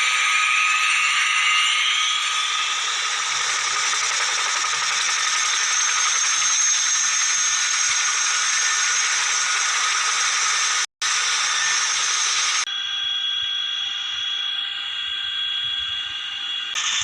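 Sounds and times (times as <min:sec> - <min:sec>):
helicopter turbine engines whining: 0:00.0 - 0:17.0.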